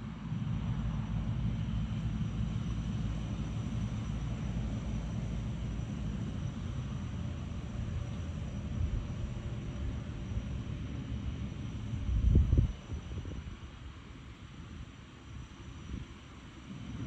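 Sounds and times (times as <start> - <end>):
propeller engines droning: 0.0 - 17.0.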